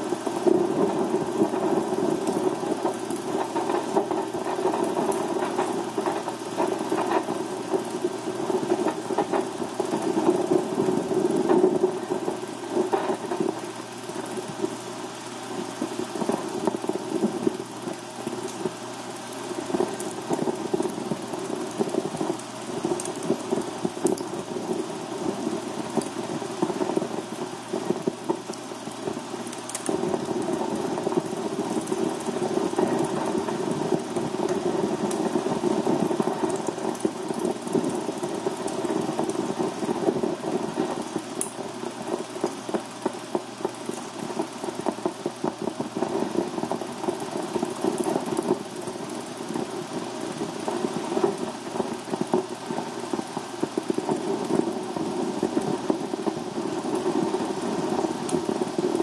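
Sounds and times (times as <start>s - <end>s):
grainy buzz with crackles and pops: 0.0s - 59.0s.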